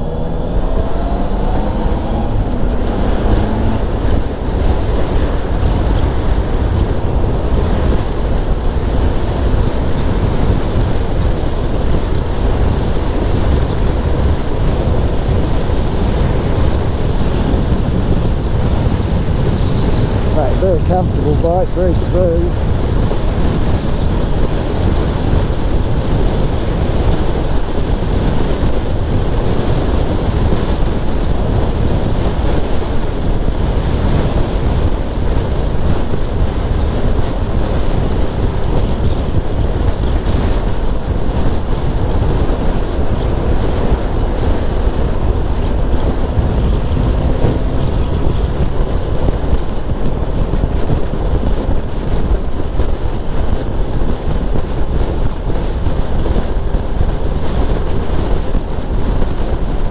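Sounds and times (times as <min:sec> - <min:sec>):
motorcycle engine: 0:00.0 - 0:53.8
tyres on road: 0:00.0 - 0:59.9
wind buffeting microphone: 0:00.0 - 0:59.9.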